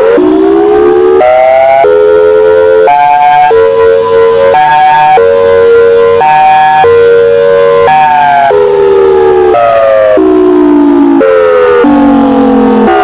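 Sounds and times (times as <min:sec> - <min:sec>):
warning siren hi-lo signal: 0:00.0 - 0:13.0.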